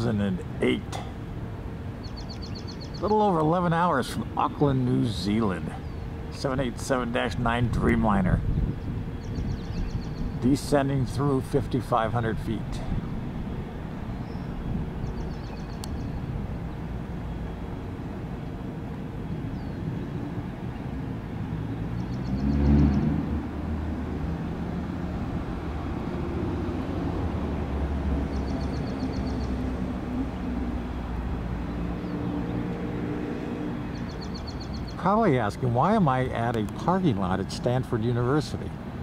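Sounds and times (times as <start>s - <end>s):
distant jet engine rumble: 0.0s - 39.0s.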